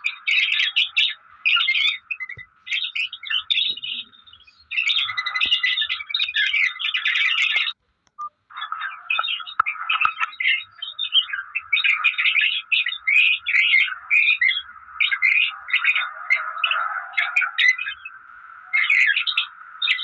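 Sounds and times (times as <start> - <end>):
parrot chirping: 0.0 - 7.8, 8.5 - 20.0.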